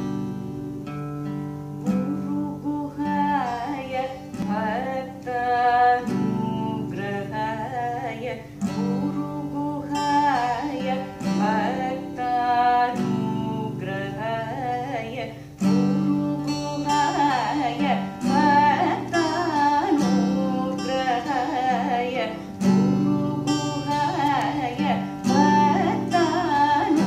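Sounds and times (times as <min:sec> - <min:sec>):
plucked acoustic guitar: 0:00.0 - 0:27.0
woman singing with ornaments: 0:01.8 - 0:27.0.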